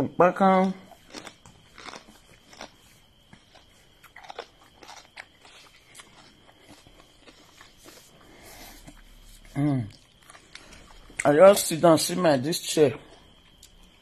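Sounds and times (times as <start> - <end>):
person chewing crunchy food: 0.6 - 11.4, 13.0 - 14.0.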